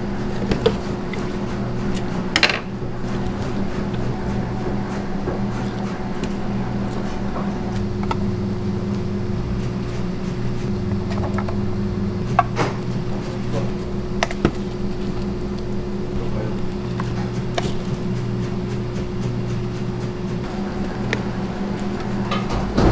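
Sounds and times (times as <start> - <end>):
kitchen machinery humming: 0.0 - 22.9.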